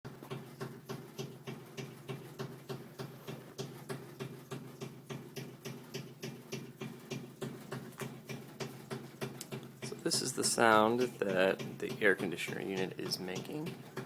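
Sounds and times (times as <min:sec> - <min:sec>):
air conditioner low hum: 0:00.1 - 0:14.0
rhythmic ticking thump: 0:00.1 - 0:14.0.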